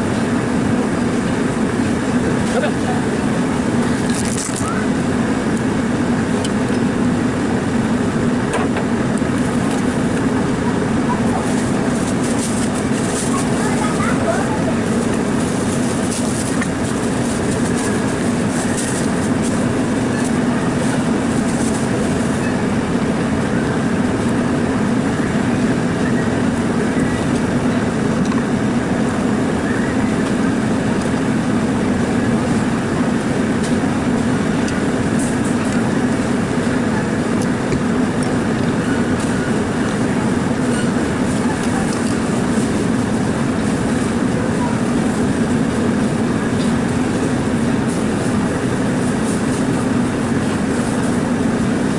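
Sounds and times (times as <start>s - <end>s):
machine drone: 0.0s - 51.9s.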